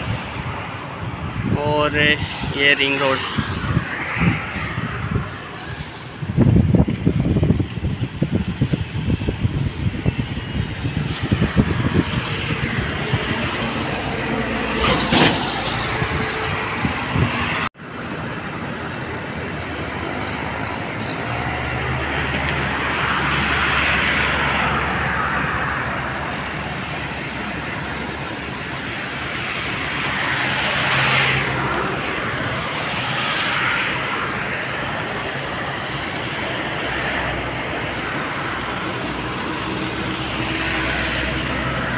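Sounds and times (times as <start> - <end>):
road traffic passing: 0.0 - 41.9
wind buffeting microphone: 0.0 - 41.9.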